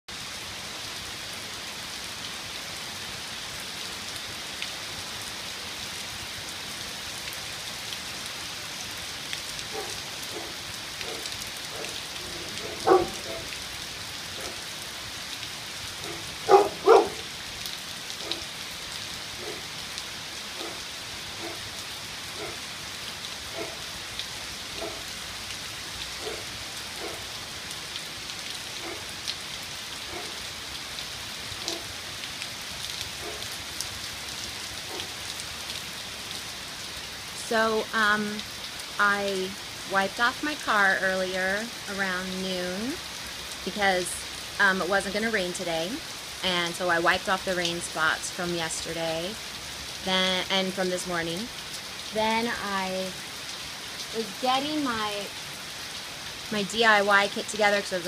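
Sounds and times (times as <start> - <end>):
rain falling on pavement: 0.1 - 58.0.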